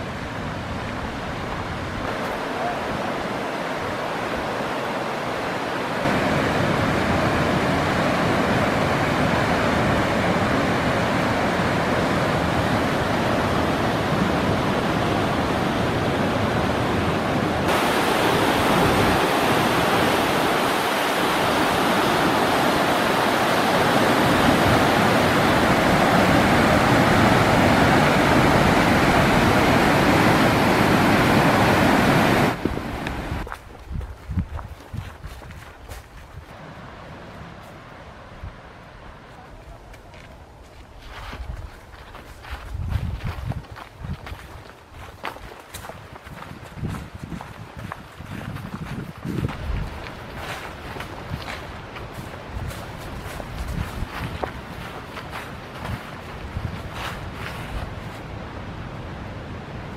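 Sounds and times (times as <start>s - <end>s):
waterfall and rapids rushing: 0.0s - 33.6s, 36.5s - 40.9s, 49.4s - 59.9s.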